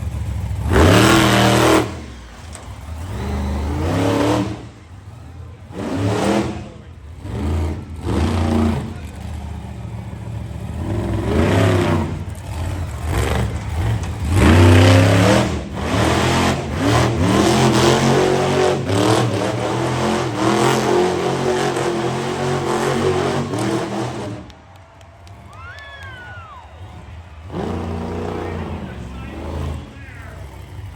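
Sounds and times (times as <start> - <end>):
monster truck engine revving: 0.0 - 30.9.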